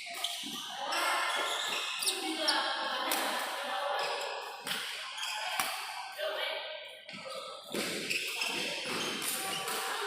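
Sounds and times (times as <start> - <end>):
court shoes squeaking: 0.0 - 3.3, 4.0 - 5.8, 7.1 - 10.0
voices in a hall: 0.0 - 10.0.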